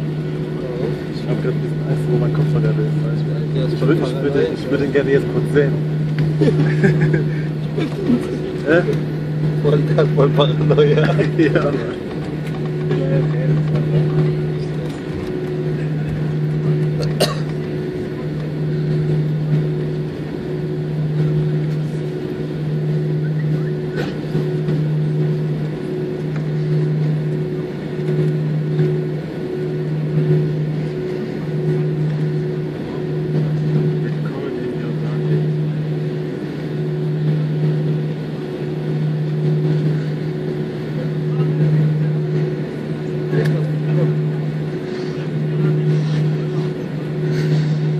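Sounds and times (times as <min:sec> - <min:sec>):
higher tone: 0:00.0 - 0:47.9
low cabin hum: 0:00.0 - 0:47.9.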